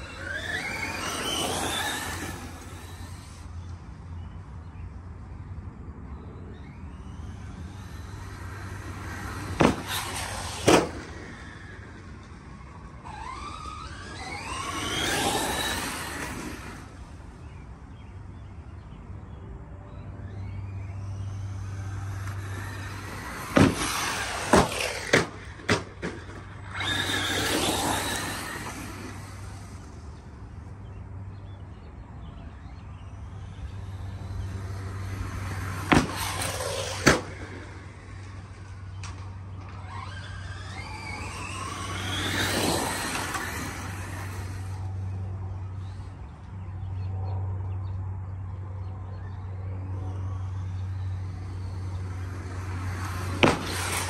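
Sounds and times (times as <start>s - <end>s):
electric motor whining: 0.0s - 4.9s, 6.1s - 18.9s, 20.1s - 46.8s, 49.2s - 54.0s.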